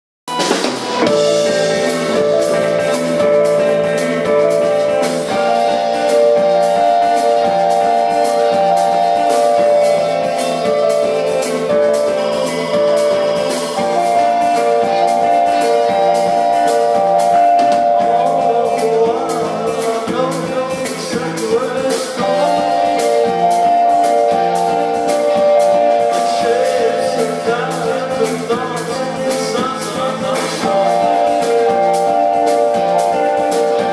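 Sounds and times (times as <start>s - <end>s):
live rock band playing: 0.3s - 33.9s.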